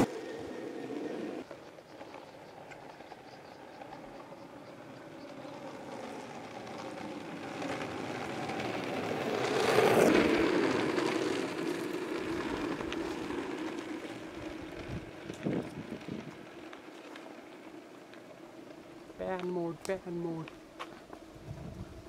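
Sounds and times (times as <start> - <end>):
skateboard wheels rolling on asphalt: 0.0 - 22.0.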